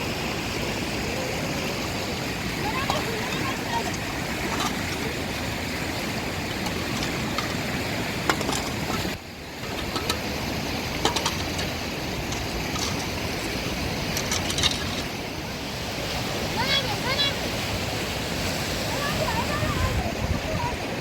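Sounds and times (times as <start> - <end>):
rushing rain or floodwater: 0.0 - 21.0.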